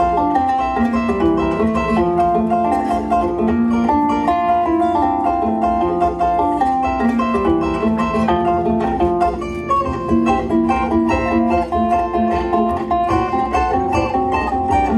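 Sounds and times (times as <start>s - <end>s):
zither plucked melody: 0.0s - 14.9s.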